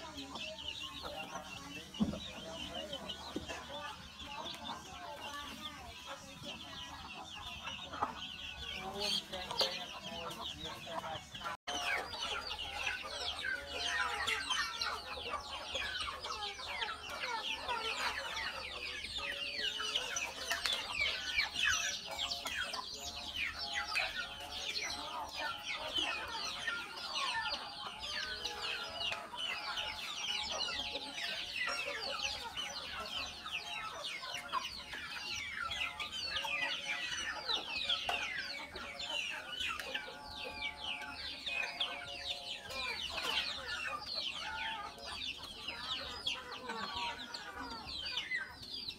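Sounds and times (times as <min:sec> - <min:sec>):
chicks peeping: 0:00.0 - 0:48.9
hens clucking: 0:00.0 - 0:48.9.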